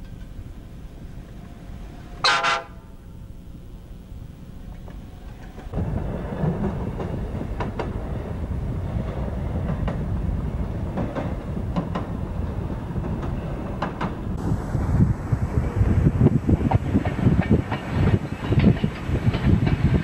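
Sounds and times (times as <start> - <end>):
wheels clicking over rail joints: 0.0 - 2.5, 4.4 - 14.4, 16.2 - 20.0.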